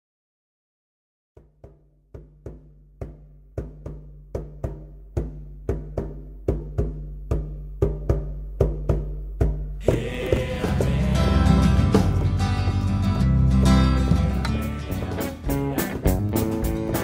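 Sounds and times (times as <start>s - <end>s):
repeating drum beat: 1.4s - 17.0s.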